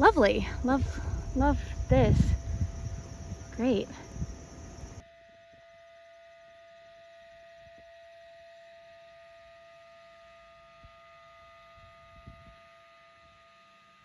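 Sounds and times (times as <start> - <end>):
faint steady tonal hum: 0.0 - 14.0.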